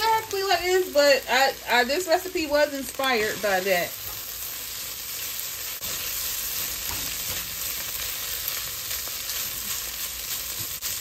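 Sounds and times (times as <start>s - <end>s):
beef and rice sizzling in pot: 0.0s - 11.0s.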